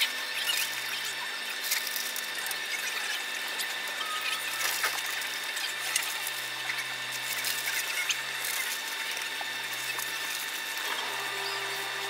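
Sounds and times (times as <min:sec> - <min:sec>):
boat machine hum: 0:01.0 - 0:12.0.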